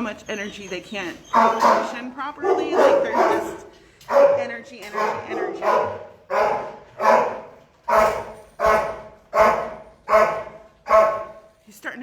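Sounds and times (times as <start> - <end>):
dog barking with echo: 1.4 - 11.4.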